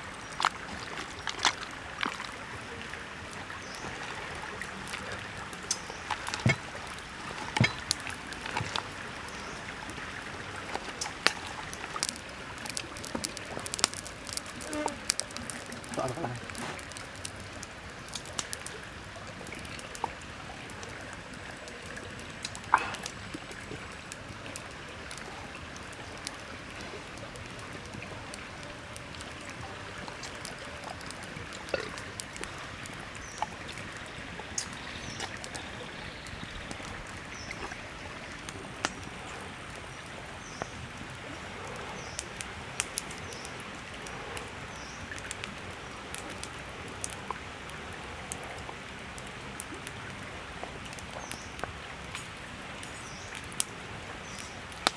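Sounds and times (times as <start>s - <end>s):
flowing water rushing: 0.0s - 54.9s.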